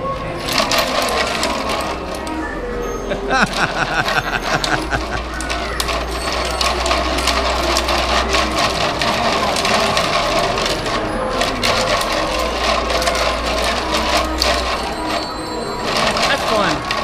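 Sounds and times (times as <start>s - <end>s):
plastic gear teeth clattering: 0.2s - 17.0s.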